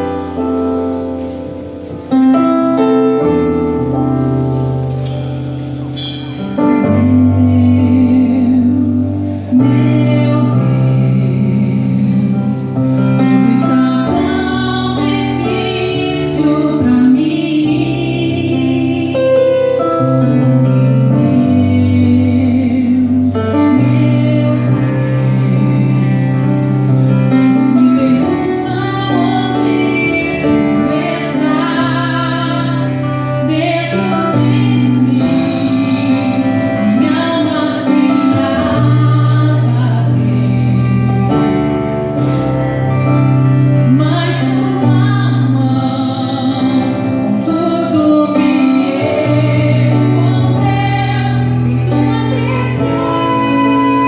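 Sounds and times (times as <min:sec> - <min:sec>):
instrumental accompaniment with bass: 0:00.0 - 0:54.0
woman singing gospel song: 0:06.7 - 0:20.4, 0:21.0 - 0:41.5, 0:43.9 - 0:54.0.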